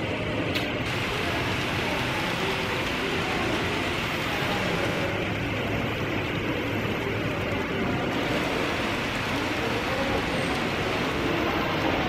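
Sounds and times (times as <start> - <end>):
hall background noise: 0.0 - 12.0
model trains rolling hum: 0.0 - 12.0.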